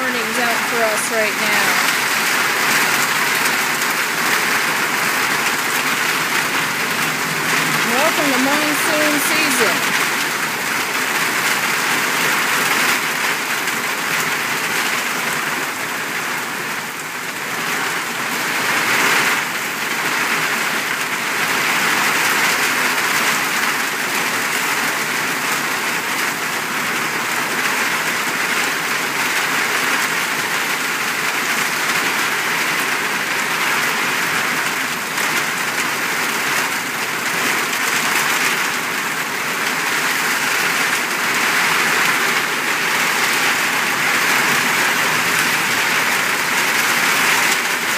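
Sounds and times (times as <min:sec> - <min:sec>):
heavy rain pouring on pavement: 0:00.0 - 0:47.9.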